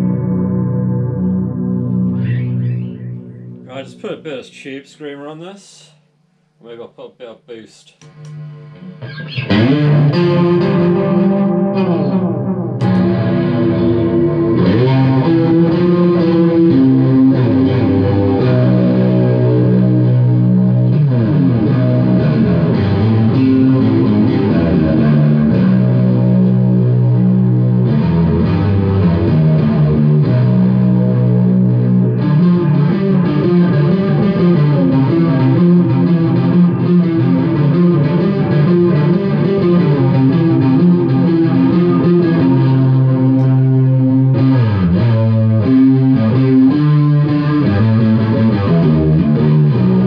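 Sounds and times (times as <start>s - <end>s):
overdriven chorused electric guitar: 0.0s - 3.7s, 8.0s - 50.0s.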